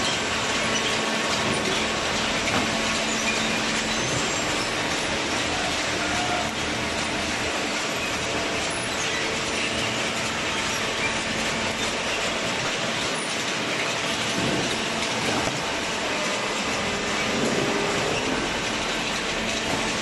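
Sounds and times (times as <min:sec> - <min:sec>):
cardboard baler running: 0:00.0 - 0:20.0.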